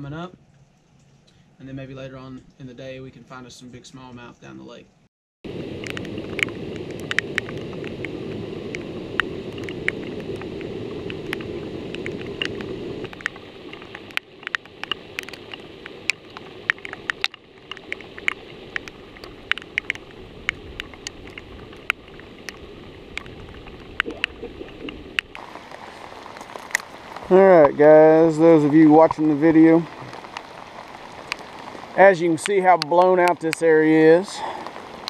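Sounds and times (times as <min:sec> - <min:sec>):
low rushing noise: 0:05.5 - 0:35.0
raindrops ticking on camera: 0:05.5 - 0:35.0.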